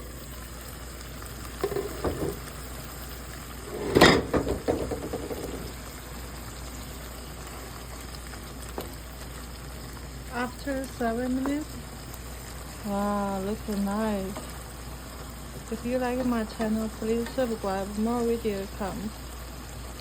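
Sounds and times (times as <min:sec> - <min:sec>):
food bubbling in a pan: 0:00.0 - 0:20.0.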